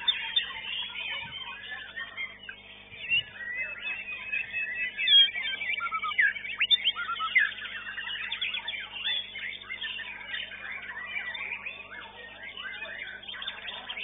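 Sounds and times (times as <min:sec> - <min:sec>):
birds singing whistles and trills: 0:00.0 - 0:14.0.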